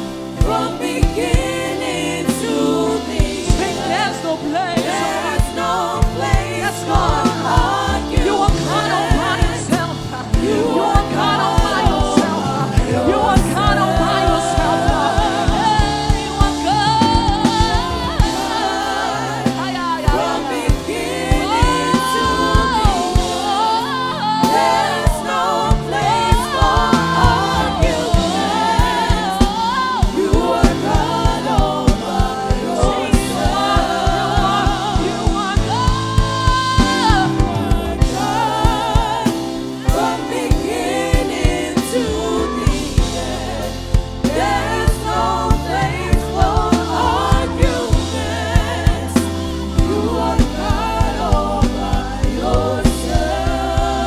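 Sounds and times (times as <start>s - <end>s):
bass: 0.0s - 54.0s
singers holding long notes: 0.0s - 54.0s
steady drum beat: 0.0s - 54.0s.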